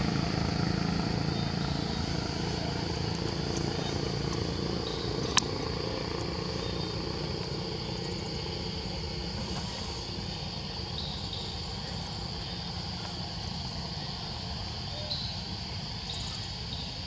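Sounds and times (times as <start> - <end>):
high insect drone: 0.2 - 17.0.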